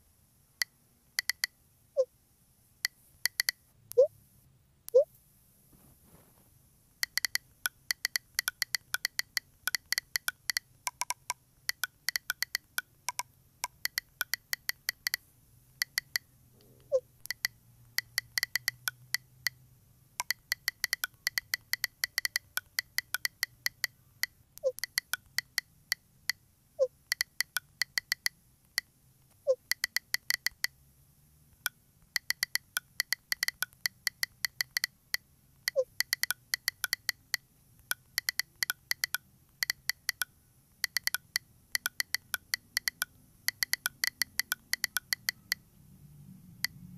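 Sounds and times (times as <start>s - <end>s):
phone keyboard typing clicks: 1.2s - 1.5s, 2.8s - 4.1s, 7.0s - 15.2s, 15.8s - 19.6s, 20.2s - 26.4s, 27.0s - 30.8s, 31.6s - 45.6s.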